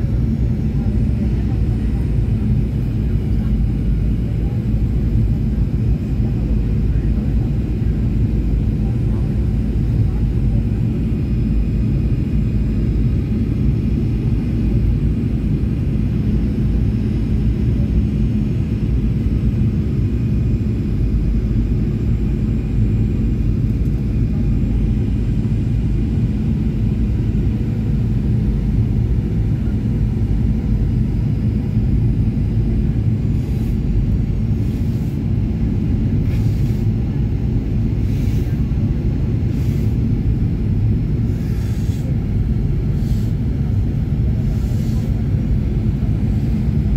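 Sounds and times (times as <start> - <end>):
airliner cabin rumble: 0.0 - 46.9.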